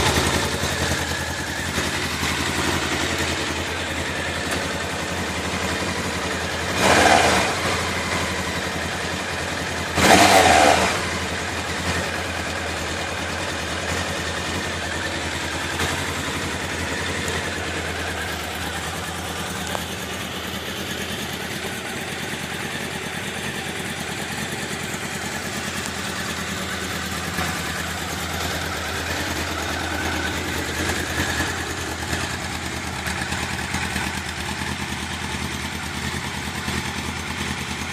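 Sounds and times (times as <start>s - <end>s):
motorcycle throttle blips: 0.0s - 37.8s
motorcycle engine idling: 0.0s - 37.9s.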